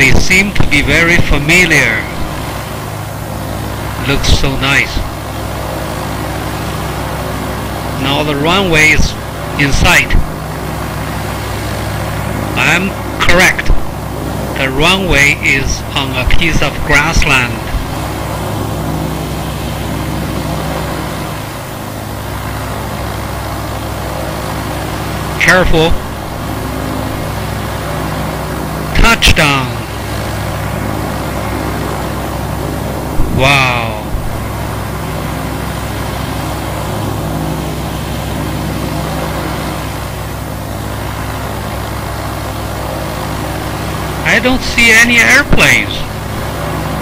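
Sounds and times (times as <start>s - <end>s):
broad rushing noise: 0.0s - 47.0s
propeller airplane engine droning: 0.0s - 47.0s.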